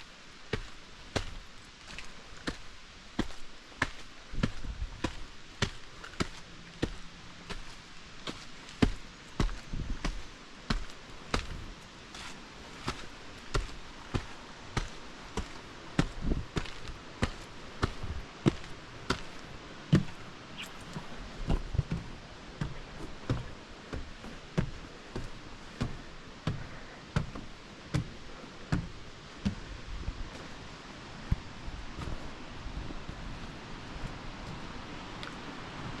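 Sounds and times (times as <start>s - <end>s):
faint steady hiss: 0.0s - 36.0s.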